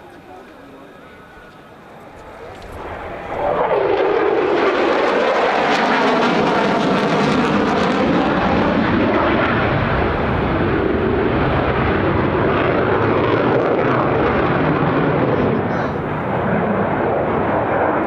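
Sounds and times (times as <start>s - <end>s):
jet fighter flying low: 0.0s - 18.0s.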